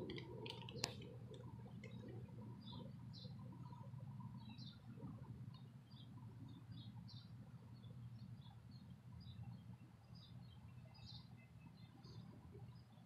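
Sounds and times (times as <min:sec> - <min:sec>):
faint birds chirping: 0:00.0 - 0:13.0
low outdoor rumble: 0:00.0 - 0:13.0.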